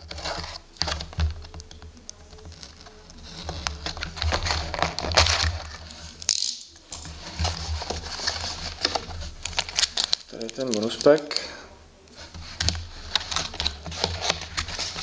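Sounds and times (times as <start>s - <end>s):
plastic wrap rustling and crinkling: 0.0s - 15.0s.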